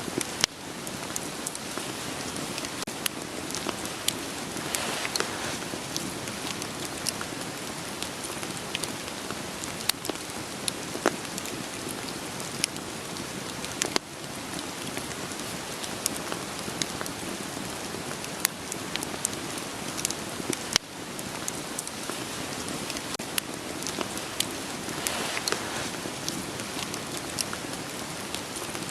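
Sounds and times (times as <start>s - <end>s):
steady rain: 0.0s - 28.9s
wood fire crackling: 0.0s - 28.9s.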